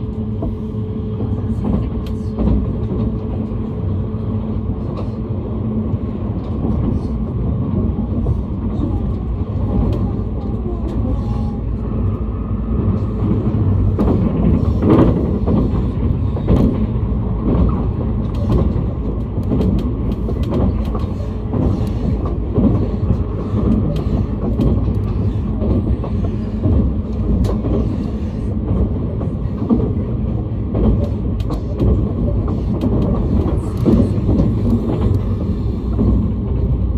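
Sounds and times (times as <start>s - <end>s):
train running low rumble: 0.0s - 36.9s
wheels clicking on track: 1.2s - 36.9s.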